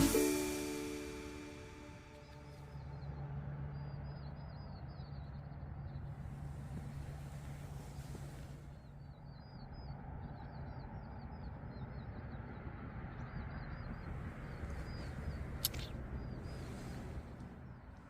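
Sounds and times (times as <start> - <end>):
low rushing background noise: 0.0 - 18.0
small birds chirping: 0.0 - 18.0.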